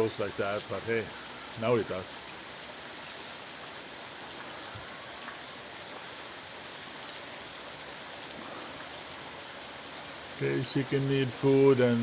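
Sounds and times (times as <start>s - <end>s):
heavy rain pattering: 0.0s - 12.0s.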